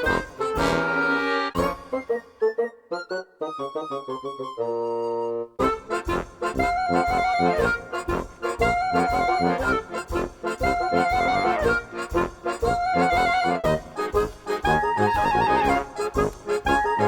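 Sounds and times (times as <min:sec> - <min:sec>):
music with steady beat: 0:00.0 - 0:02.3, 0:05.6 - 0:17.0.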